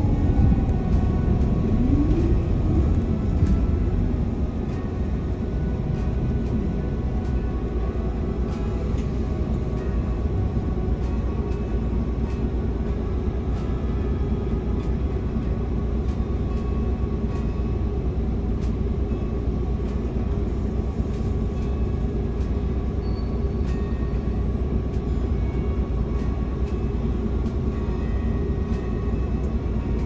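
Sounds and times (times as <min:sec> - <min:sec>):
bus engine and road rumble: 0:00.0 - 0:30.0
rattles and clicks in cabin: 0:00.0 - 0:30.0.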